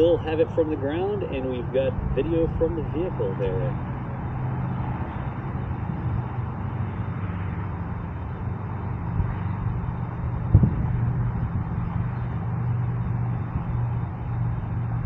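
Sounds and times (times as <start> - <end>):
vehicle rumble with low hum: 0.0 - 15.0.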